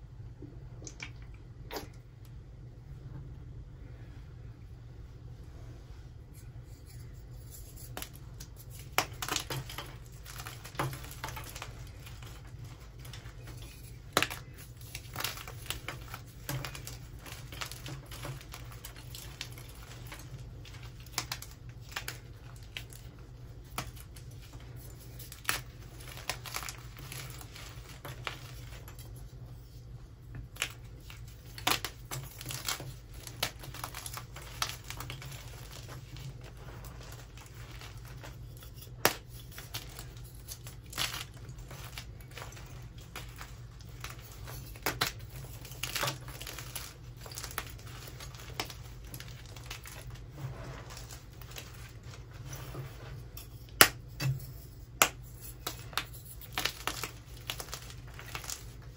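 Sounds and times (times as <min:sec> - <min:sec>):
low steady hum: 0:00.0 - 0:58.9.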